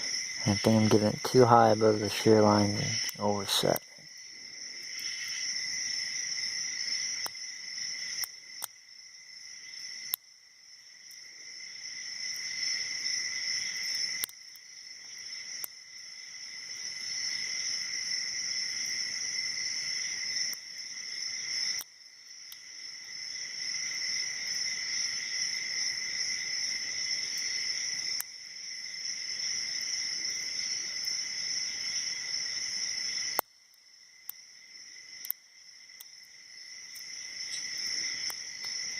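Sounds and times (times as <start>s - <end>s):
high chirring insect drone: 0.0s - 38.9s.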